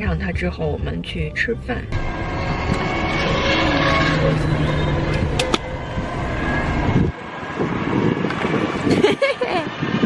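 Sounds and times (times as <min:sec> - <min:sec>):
steady hum: 0:00.0 - 0:08.2
street traffic: 0:00.0 - 0:10.0.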